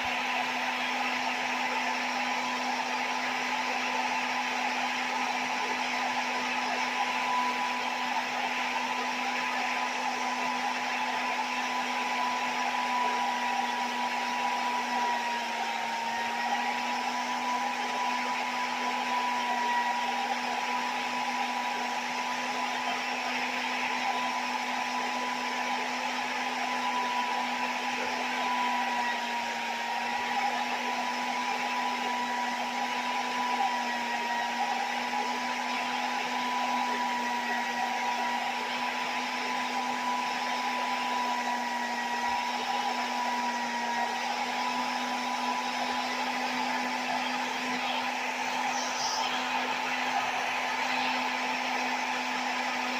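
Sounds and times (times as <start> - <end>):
hair dryer running: 0.0 - 52.9.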